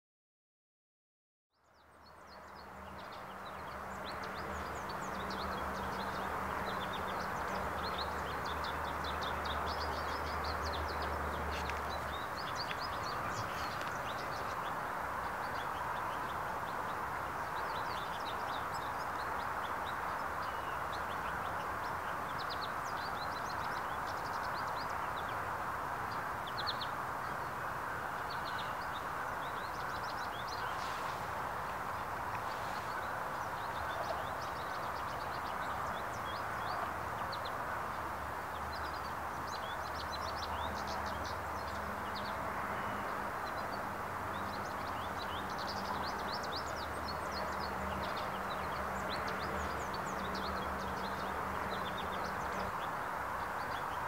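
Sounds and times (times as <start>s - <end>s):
small birds chirping: 1.5s - 54.0s
outdoor ambient hiss: 1.6s - 54.0s.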